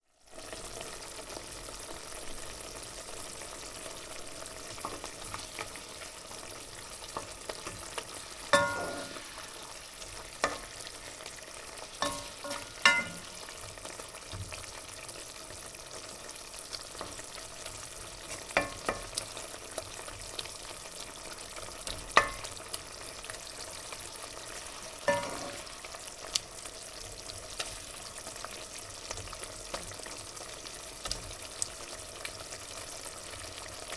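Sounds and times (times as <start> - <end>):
food deep-frying in oil: 0.0 - 33.9.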